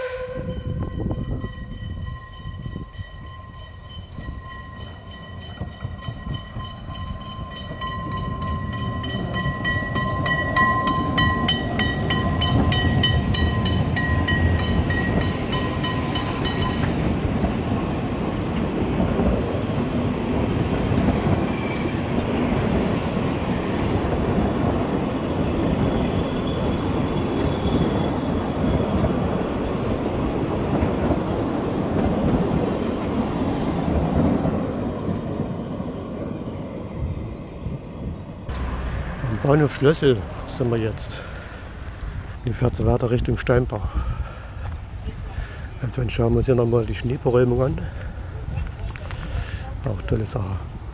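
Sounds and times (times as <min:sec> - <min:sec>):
train rumble and rattle: 0:00.0 - 0:50.9.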